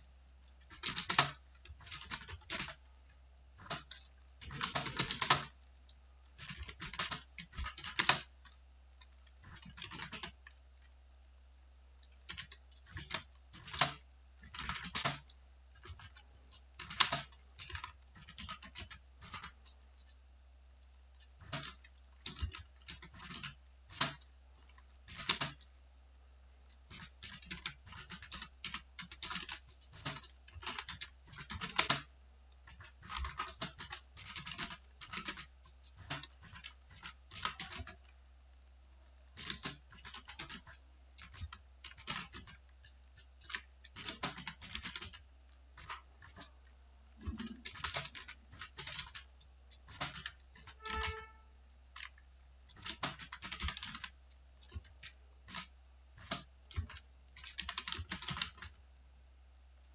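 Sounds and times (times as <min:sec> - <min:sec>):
faint low hum: 0:00.0 - 0:59.9
keyboard typing: 0:00.4 - 0:11.0, 0:12.0 - 0:20.2, 0:20.8 - 0:25.7, 0:26.7 - 0:38.2, 0:39.3 - 0:58.8.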